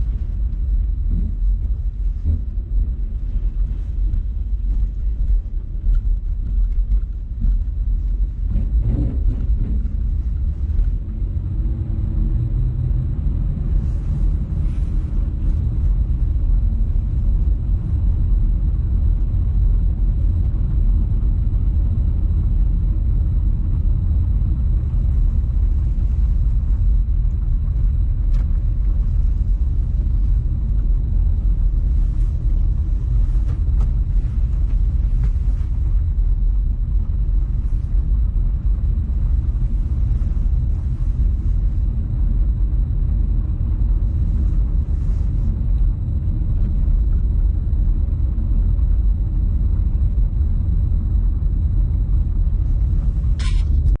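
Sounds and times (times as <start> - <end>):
loud low rumble: 0.0 - 54.0.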